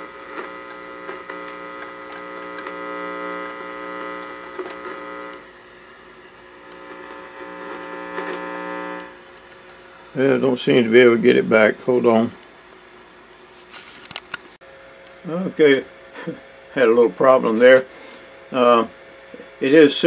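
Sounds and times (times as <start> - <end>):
electrical hum-buzz: 0.0 - 20.0.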